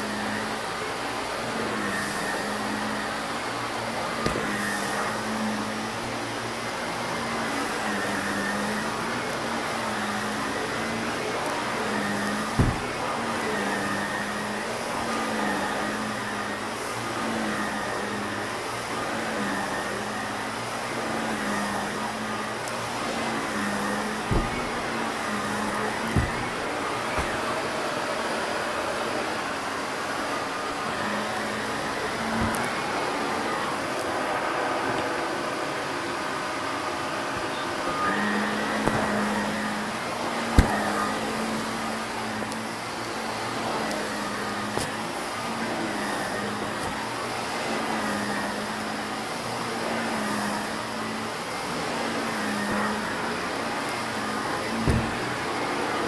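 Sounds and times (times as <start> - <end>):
vacuum cleaner motor drone: 0.0 - 56.0.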